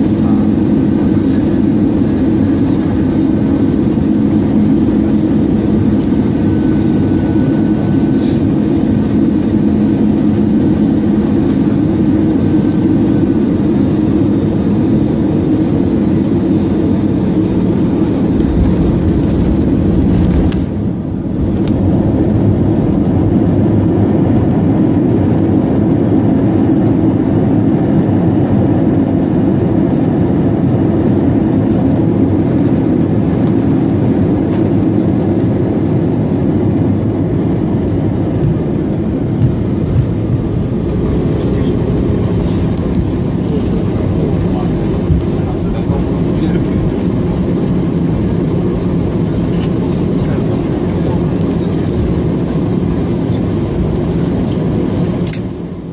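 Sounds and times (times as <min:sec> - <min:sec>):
jet engine and airflow roar: 0:00.0 - 0:55.9.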